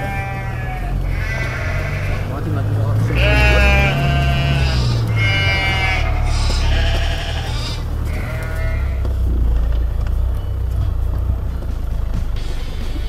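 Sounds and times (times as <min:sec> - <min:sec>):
engine running low: 0:00.0 - 0:13.0
high wailing tones: 0:00.0 - 0:13.0.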